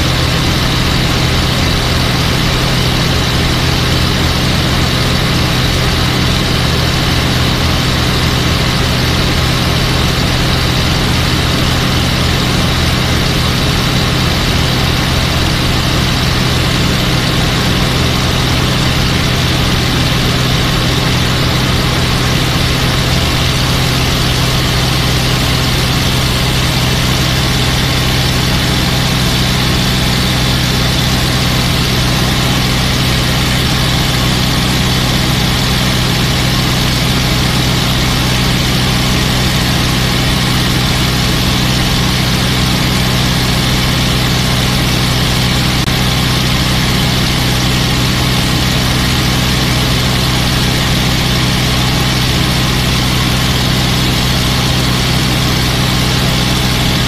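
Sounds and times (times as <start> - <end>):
aircraft piston engine drone: 0.0 - 57.0.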